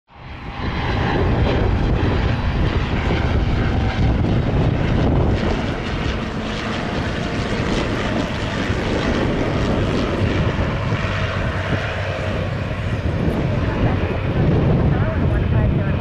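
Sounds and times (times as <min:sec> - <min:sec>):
turboprop engines running: 0:00.1 - 0:16.0.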